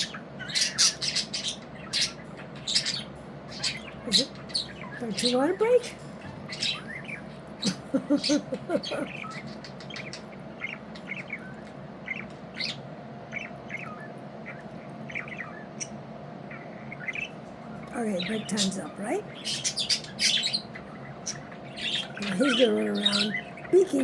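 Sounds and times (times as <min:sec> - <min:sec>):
budgies chirping: 0:00.0 - 0:24.0
steady background hum: 0:00.0 - 0:24.0.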